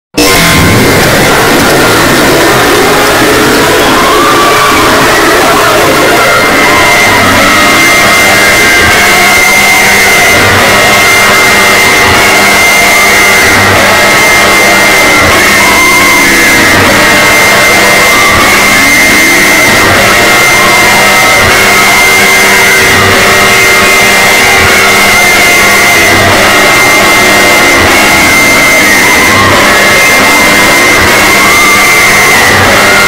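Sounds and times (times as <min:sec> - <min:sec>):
distorted emergency alert alarm: 0:00.2 - 0:33.0.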